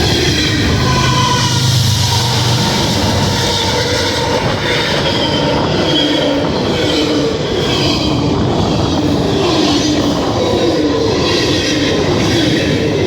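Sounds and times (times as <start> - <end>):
freight train cars rolling: 0.0 - 13.0
wheels squealing on rail: 0.0 - 13.0.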